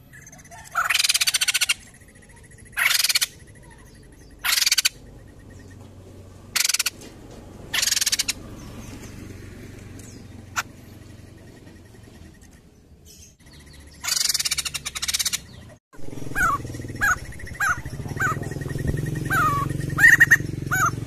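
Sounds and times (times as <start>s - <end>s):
bird harsh rattling calls: 0.0s - 5.8s, 6.5s - 7.0s, 7.6s - 9.2s, 10.0s - 21.0s.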